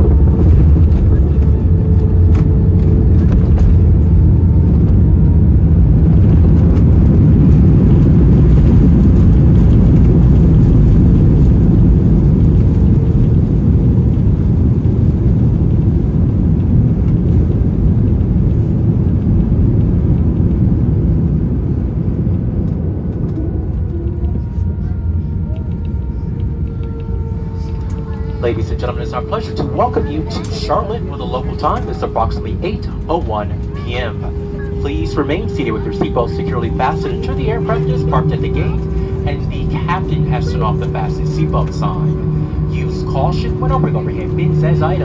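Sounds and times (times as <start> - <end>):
airplane cabin rumble: 0.0 - 45.0.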